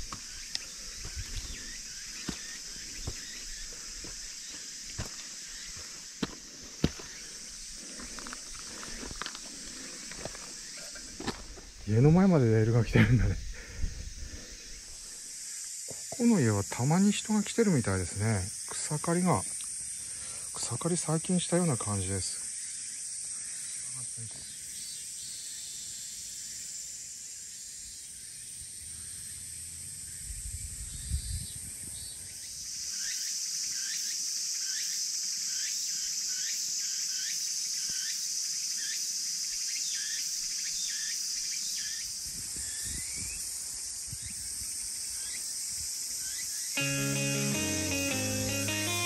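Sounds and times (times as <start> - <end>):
insect chirps: 0.0 - 49.0
insects buzzing: 0.0 - 49.0.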